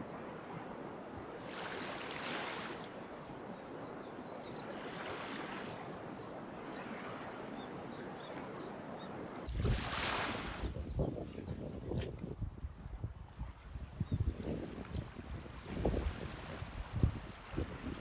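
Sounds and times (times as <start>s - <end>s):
sea waves washing on shore: 0.0s - 12.2s, 14.4s - 18.0s.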